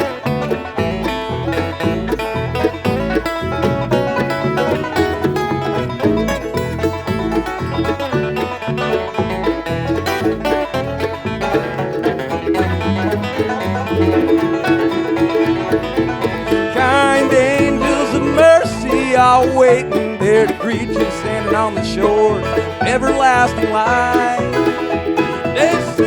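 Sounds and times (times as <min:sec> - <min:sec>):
banjo: 0:00.0 - 0:26.0
guitar: 0:00.0 - 0:26.0
bass pulse: 0:00.3 - 0:26.0.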